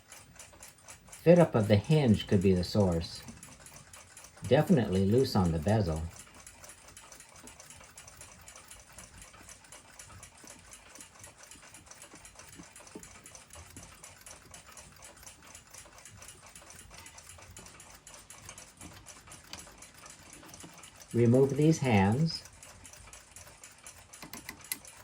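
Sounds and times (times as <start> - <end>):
mechanical clock ticking: 0.0 - 25.0.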